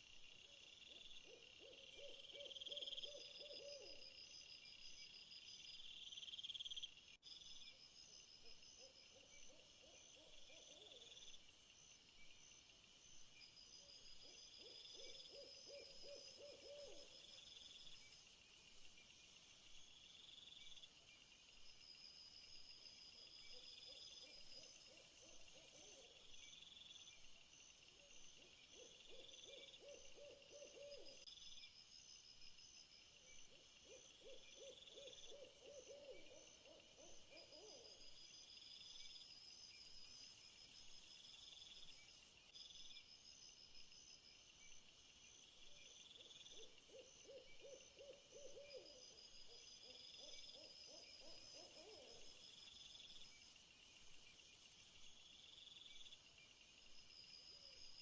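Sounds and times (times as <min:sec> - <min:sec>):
insects chirping and trilling: 0:00.0 - 0:58.0.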